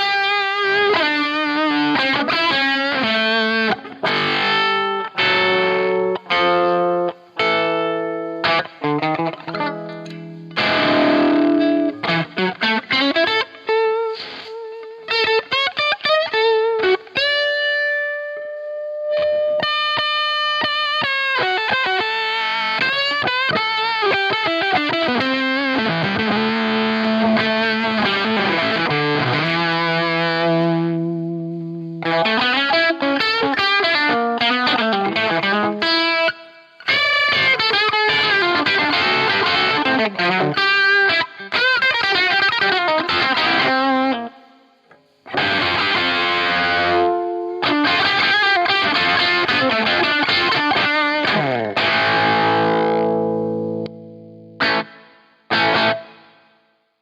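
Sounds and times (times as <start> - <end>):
fuzz distorted electric guitar: 0.0 - 57.0.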